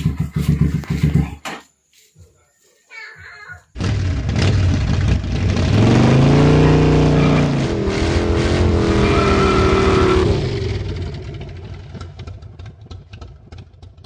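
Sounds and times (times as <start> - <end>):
motorcycle engine revving: 0.0 - 1.4, 3.8 - 14.0.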